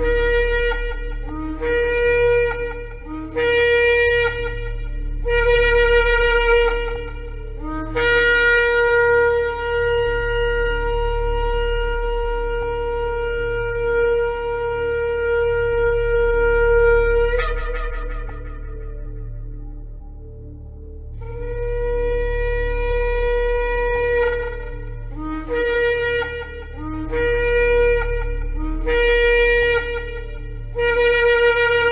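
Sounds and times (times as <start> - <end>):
ram's horn blasts: 0.0 - 20.6, 21.2 - 31.9.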